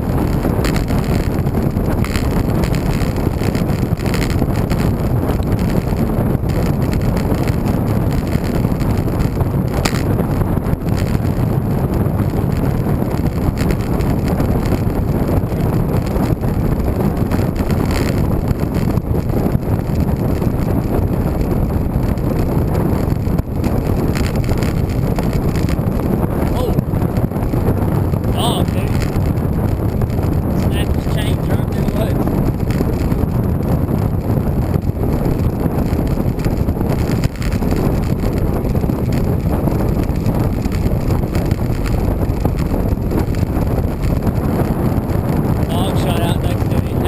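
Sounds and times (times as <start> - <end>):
low rumble of bicycle ride: 0.0 - 47.0
wind rushing over microphone: 0.0 - 47.0.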